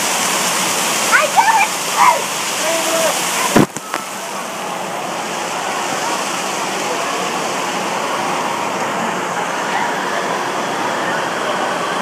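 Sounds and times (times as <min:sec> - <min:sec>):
rushing water: 0:00.0 - 0:12.0
faint voices: 0:01.1 - 0:12.0.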